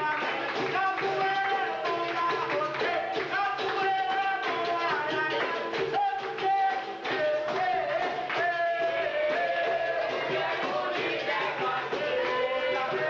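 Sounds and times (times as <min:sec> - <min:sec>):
hand clapping in time: 0:00.0 - 0:13.0
person singing: 0:00.0 - 0:13.0.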